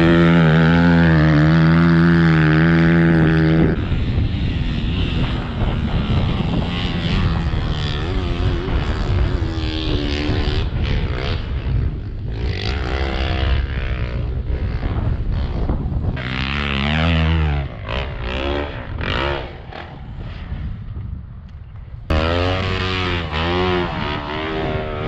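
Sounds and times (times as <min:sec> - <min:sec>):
dirt bike engine revving: 0:00.0 - 0:20.7, 0:22.1 - 0:25.0.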